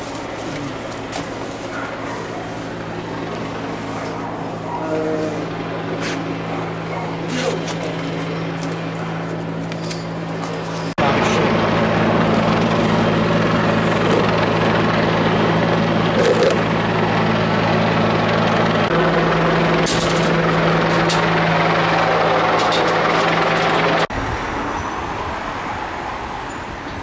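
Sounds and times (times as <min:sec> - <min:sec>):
vehicle engine idling: 0:00.0 - 0:24.1.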